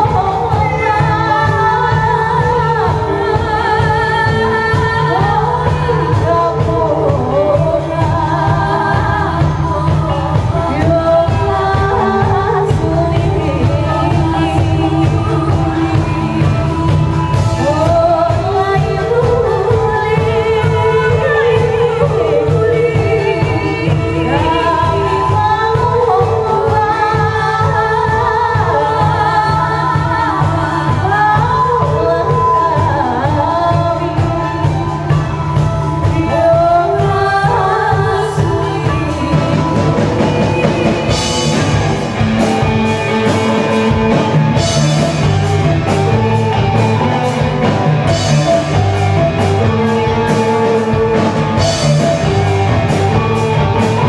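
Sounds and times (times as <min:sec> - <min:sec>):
bass and keyboard: 0:00.0 - 0:54.0
drums and cymbals: 0:00.0 - 0:54.0
women singing: 0:00.0 - 0:54.0.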